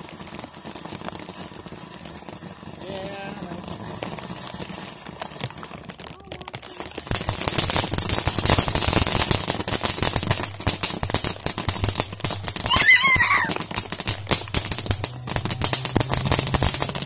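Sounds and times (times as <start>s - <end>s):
firework pops and crackles: 0.0s - 17.0s.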